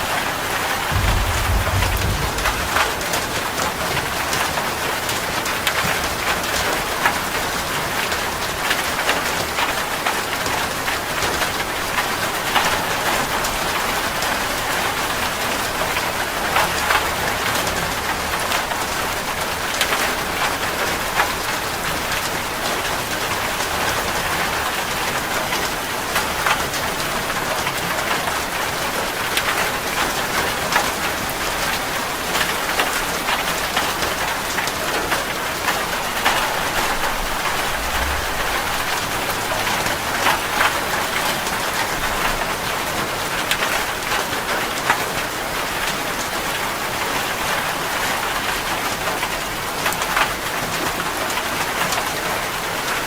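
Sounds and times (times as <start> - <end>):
heavy rain on metal roof: 0.0 - 53.0.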